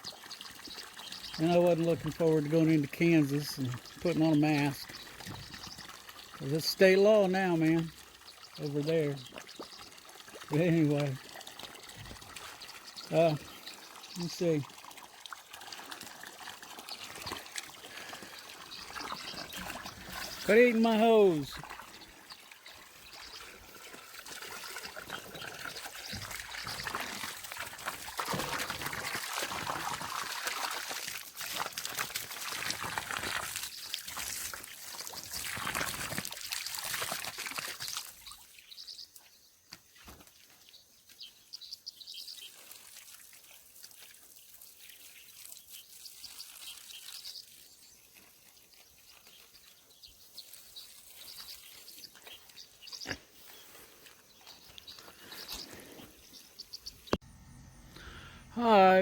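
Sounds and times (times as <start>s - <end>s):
water splashing from hose: 0.0s - 38.8s, 42.1s - 54.2s.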